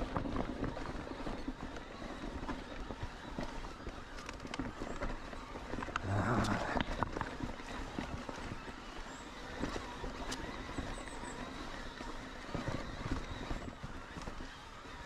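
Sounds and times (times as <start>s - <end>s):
bike tyre noise on trail: 0.0s - 15.0s.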